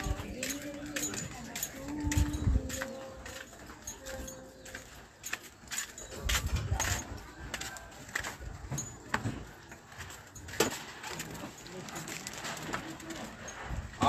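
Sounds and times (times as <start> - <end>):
footsteps on wooden boardwalk: 0.0 - 14.0.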